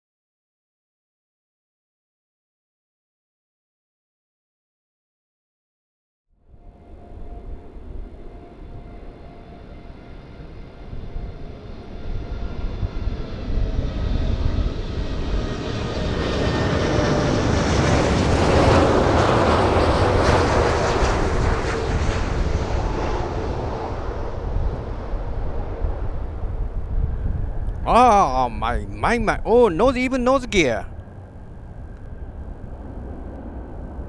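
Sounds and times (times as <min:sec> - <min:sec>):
jet engines roaring with whine: 0:06.6 - 0:34.0.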